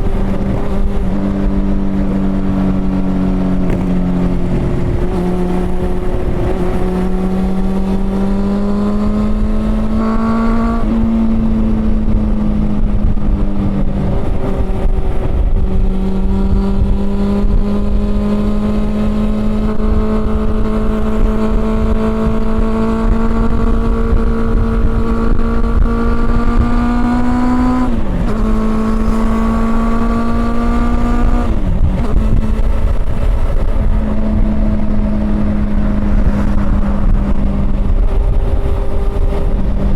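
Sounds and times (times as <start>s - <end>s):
motorcycle engine revving high: 0.0s - 39.9s
wind and road rumble: 0.0s - 39.9s.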